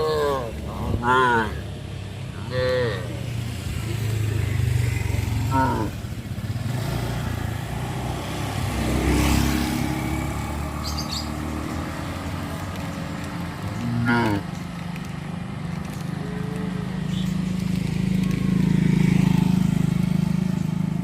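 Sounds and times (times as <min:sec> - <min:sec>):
motorcycle engine passing: 0:00.0 - 0:21.0.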